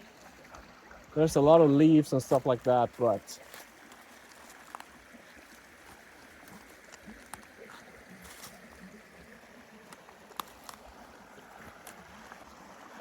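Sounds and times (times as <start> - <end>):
creek flowing: 0.0 - 13.0.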